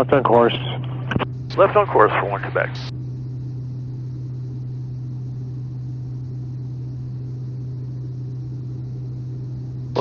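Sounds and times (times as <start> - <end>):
turboprop engine drone: 0.0 - 10.0.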